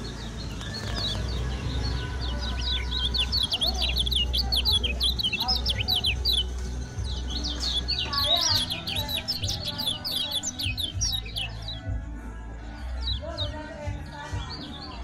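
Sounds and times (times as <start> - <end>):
bird chirping song: 0.0 - 15.0.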